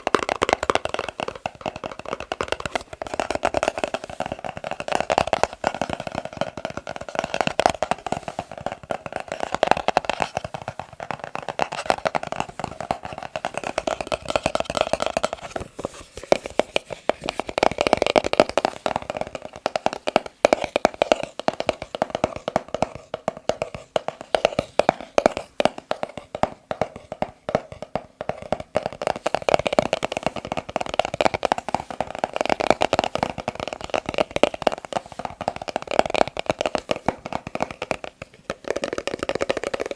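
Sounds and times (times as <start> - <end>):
fingers tapping on a box: 0.0 - 39.9.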